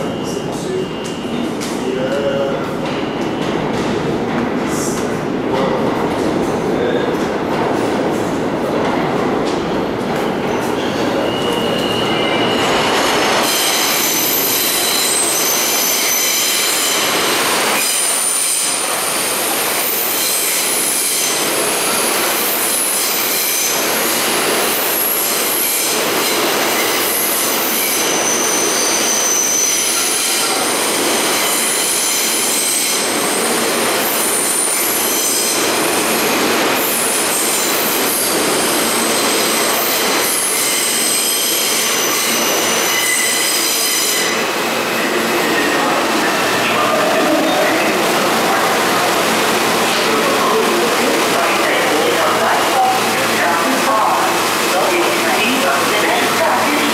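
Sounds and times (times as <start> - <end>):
subway train rumbling: 0.0 - 56.9.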